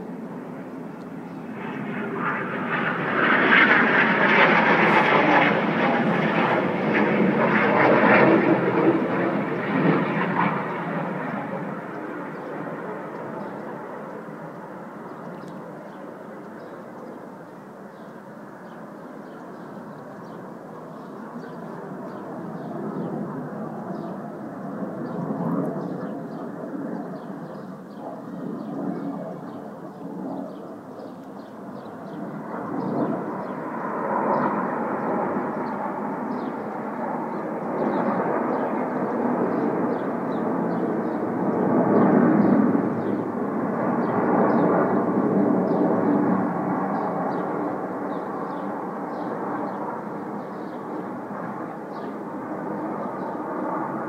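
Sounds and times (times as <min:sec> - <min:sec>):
birds chirping: 0:00.0 - 0:45.0, 0:45.6 - 0:54.0
distant jet noise: 0:00.0 - 0:54.0.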